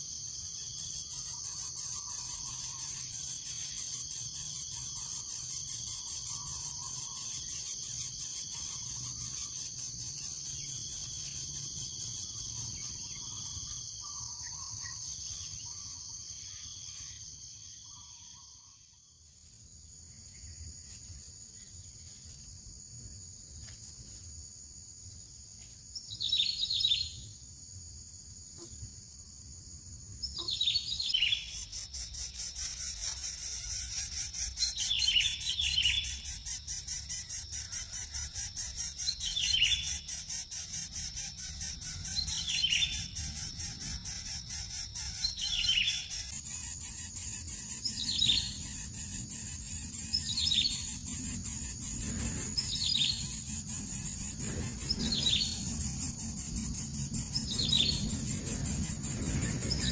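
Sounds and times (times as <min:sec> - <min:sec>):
insects droning: 0:00.0 - 0:59.9
bird chirping: 0:00.1 - 0:19.2, 0:30.2 - 0:59.9.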